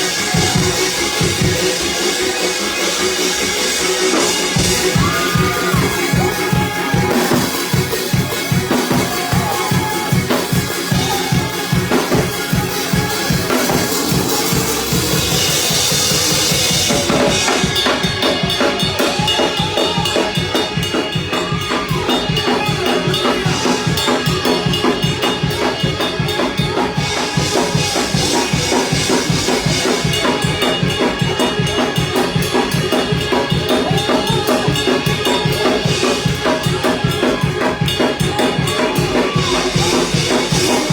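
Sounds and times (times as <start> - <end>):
bass drum and snare beat: 0.0 - 40.9
up-tempo church praise music: 0.0 - 40.9.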